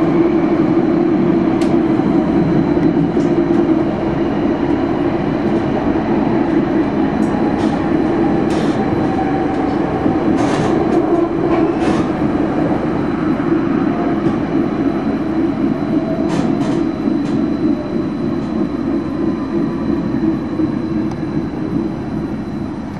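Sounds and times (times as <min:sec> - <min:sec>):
tram wheels rumbling on rail: 0:00.0 - 0:22.9.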